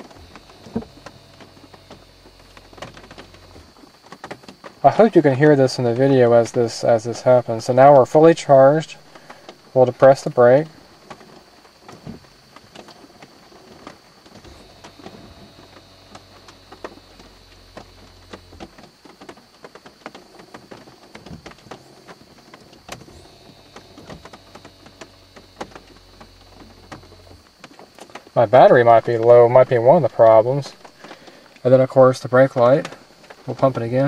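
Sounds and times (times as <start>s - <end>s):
pump motor humming: 0.0s - 34.0s
rain ticking on car body: 0.0s - 34.0s.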